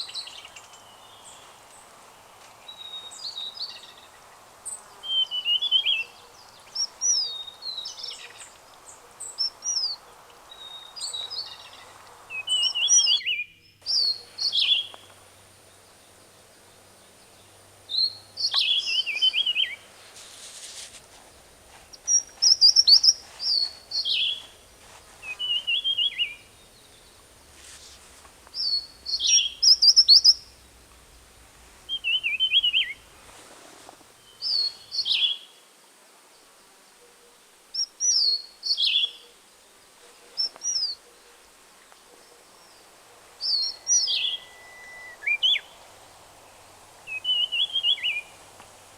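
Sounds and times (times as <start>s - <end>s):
songbird singing: 0.0s - 48.9s.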